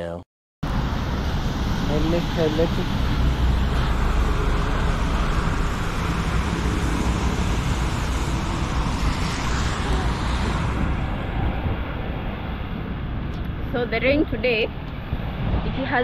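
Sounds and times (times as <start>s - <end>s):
tyres on wet road: 0.6s - 16.0s
vehicles passing: 0.6s - 16.0s.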